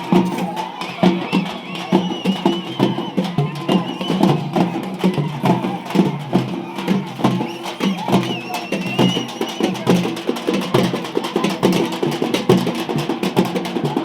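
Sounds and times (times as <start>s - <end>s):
fast dense drum beat: 0.0s - 14.0s.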